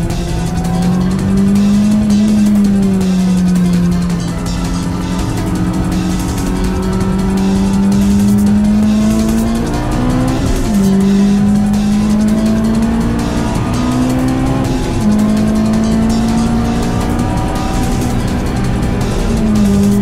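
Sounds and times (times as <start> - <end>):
car engine at high revs: 0.0 - 20.0
tyre and road noise: 0.0 - 20.0.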